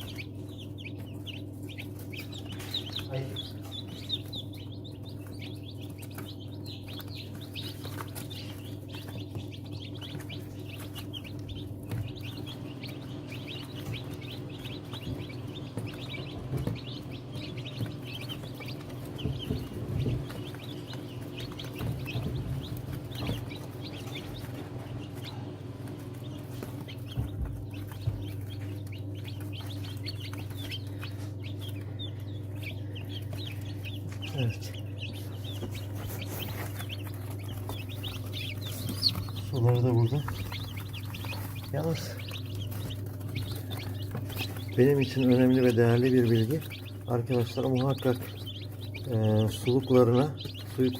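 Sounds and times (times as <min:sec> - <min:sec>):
chicks peeping: 0:00.0 - 0:50.9
incubator humming: 0:00.0 - 0:50.9.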